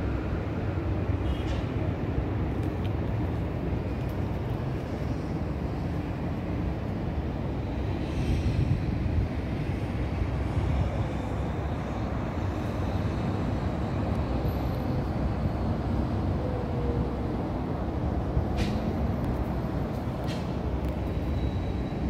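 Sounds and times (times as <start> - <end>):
distant traffic: 0.0 - 22.0
wind: 0.0 - 22.0.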